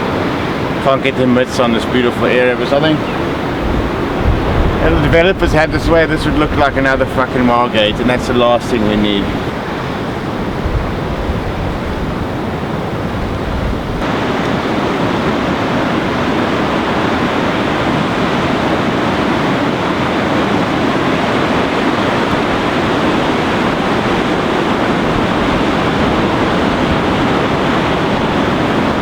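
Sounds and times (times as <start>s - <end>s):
sea surf rushing: 0.0s - 29.0s
wind: 0.0s - 29.0s.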